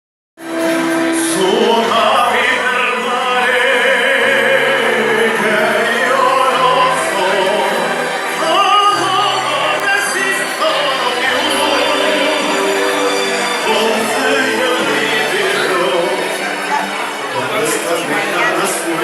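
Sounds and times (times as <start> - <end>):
person singing: 0.5 - 19.0.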